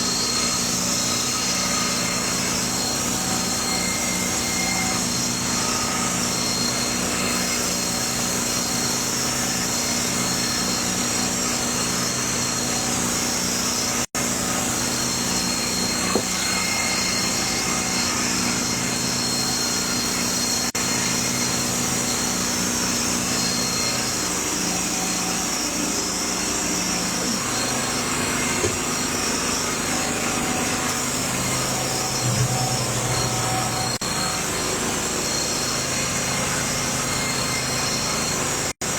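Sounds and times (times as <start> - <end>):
small engine humming: 0.0 - 38.9.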